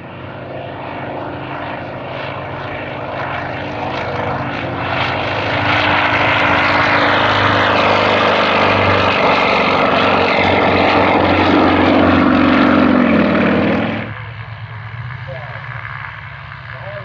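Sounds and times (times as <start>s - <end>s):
propeller airplane engine drone: 0.0s - 17.0s.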